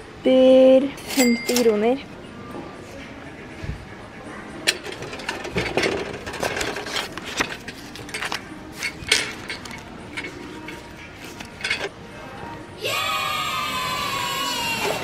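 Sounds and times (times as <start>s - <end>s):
shop background hum: 0.0s - 15.0s.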